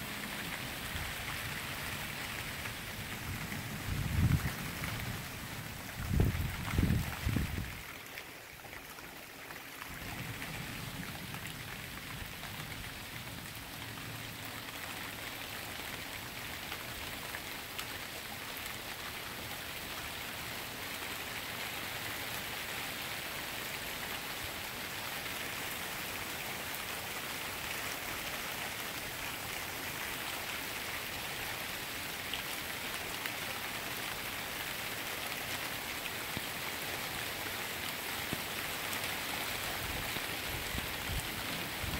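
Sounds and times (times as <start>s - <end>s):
rain falling on street: 0.0s - 41.9s.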